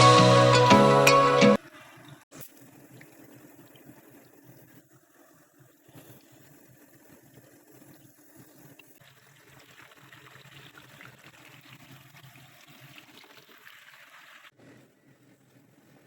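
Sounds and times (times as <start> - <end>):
trickling water: 1.6 - 14.6.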